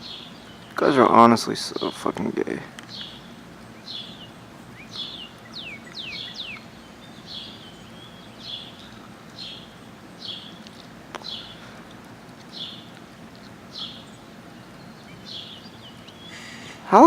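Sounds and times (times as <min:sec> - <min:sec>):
bird chirping: 0:00.0 - 0:02.1, 0:02.8 - 0:17.0.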